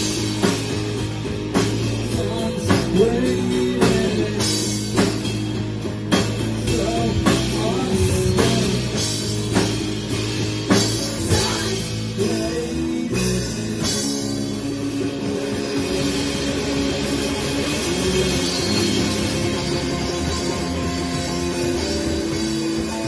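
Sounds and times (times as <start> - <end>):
bass guitar notes: 0.0 - 23.0
drum and cymbal hits: 0.0 - 23.0
sustained guitar notes: 0.0 - 23.0.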